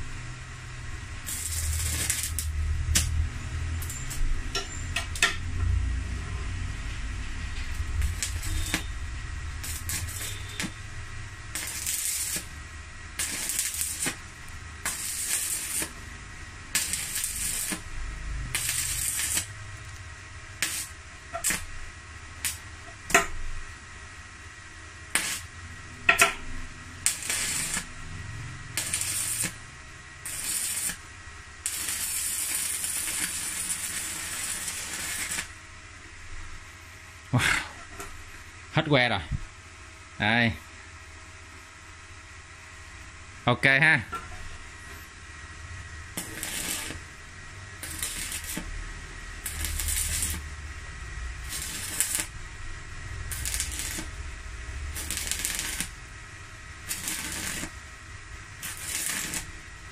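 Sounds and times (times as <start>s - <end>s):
welding arc crackling hiss: 0.0s - 40.4s, 44.4s - 59.9s.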